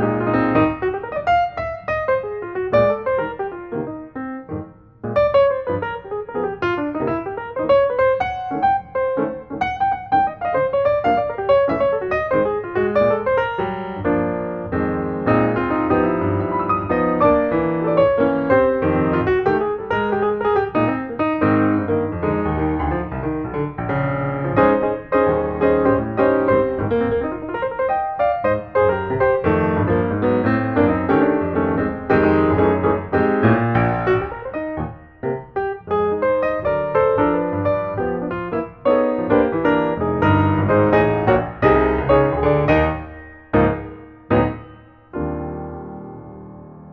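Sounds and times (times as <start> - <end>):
piano music with quick notes: 0.0 - 46.9.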